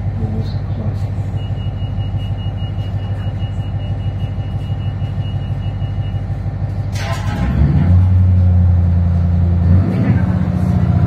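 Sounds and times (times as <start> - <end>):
low diesel engine hum: 0.0 - 11.0.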